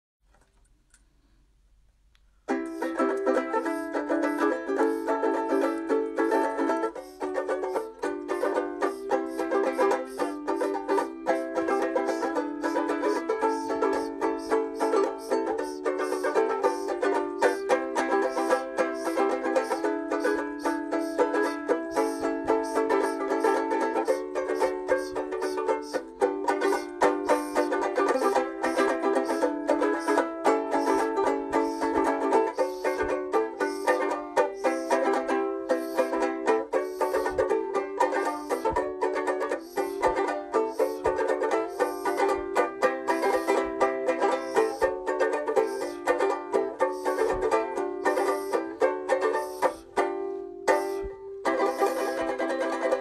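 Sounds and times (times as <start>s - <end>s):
banjolele plucking a tune: 2.4s - 53.0s.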